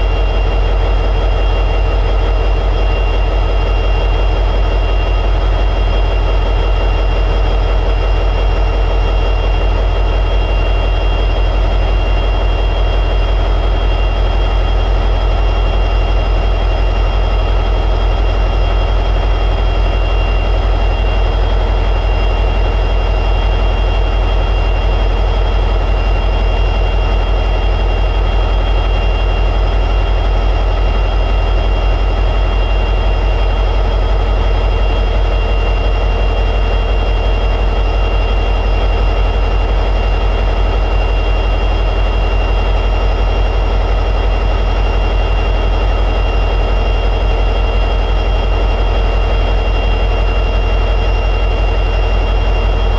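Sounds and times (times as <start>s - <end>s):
diesel engine drone: 0.0s - 52.9s
high whine: 0.0s - 52.9s.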